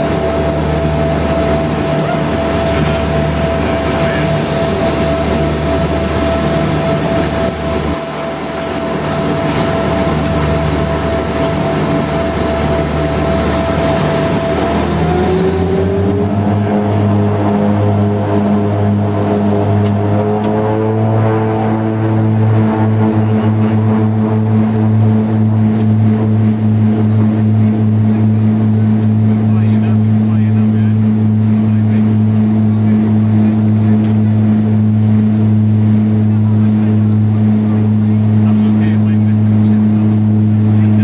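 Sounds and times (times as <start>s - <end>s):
deep propeller drone: 0.0s - 41.0s
turboprop engine whine and drone: 0.0s - 41.0s.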